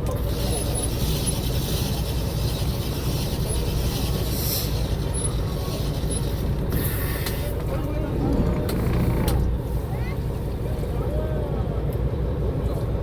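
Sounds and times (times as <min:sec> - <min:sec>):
boat engine rumbling: 0:00.0 - 0:13.0
wind: 0:00.0 - 0:13.0.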